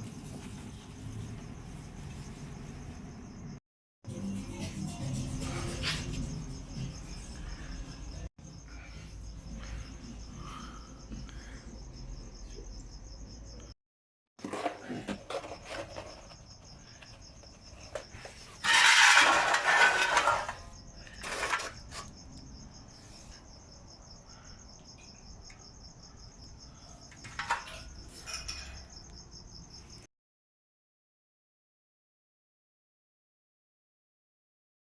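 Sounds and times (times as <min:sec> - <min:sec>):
cricket chirping: 0:00.0 - 0:03.6, 0:04.2 - 0:13.8, 0:14.7 - 0:30.1.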